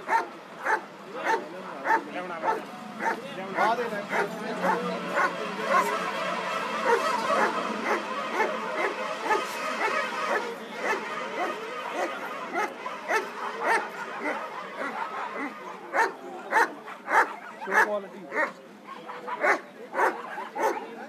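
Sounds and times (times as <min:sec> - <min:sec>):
dogs barking: 0:00.0 - 0:21.0.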